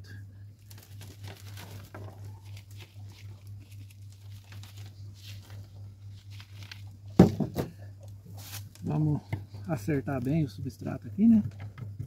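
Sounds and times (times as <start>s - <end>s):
steady low hum: 0.0s - 12.0s
soil rustling and tapping: 0.6s - 12.0s.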